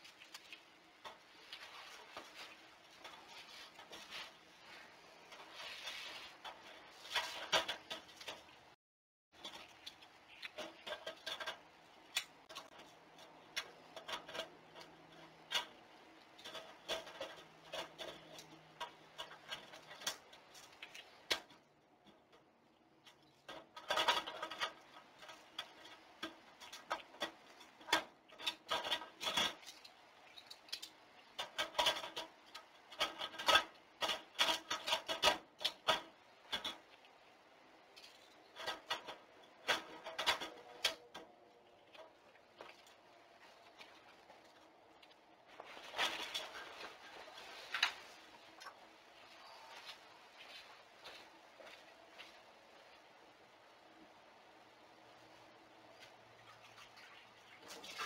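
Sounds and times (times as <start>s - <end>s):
scraping and scratching: 0.0s - 53.8s.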